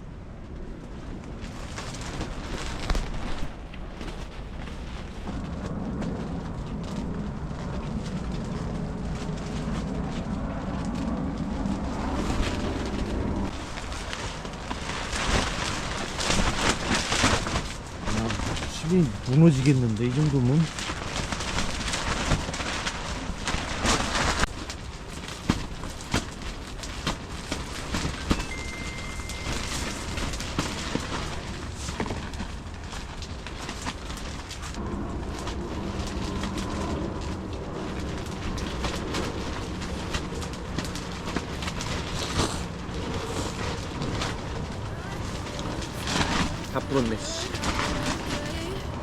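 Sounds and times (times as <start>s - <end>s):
strong gusting wind: 0.0s - 49.0s
tent fabric snapping: 1.4s - 34.8s, 36.0s - 48.7s.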